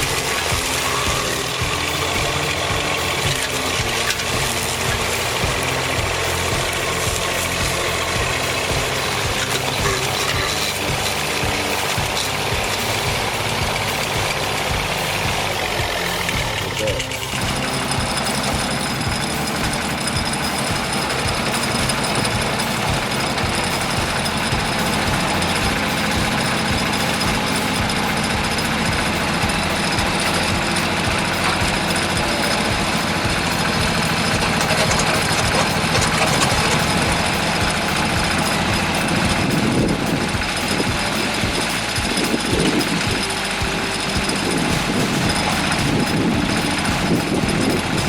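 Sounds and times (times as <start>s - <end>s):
engine-driven machine chattering: 0.0s - 48.0s.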